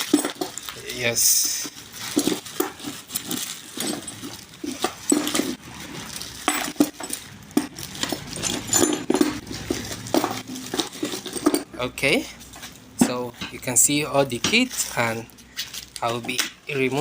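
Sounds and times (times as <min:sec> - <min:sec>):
metal parts clinking: 0:00.0 - 0:17.0.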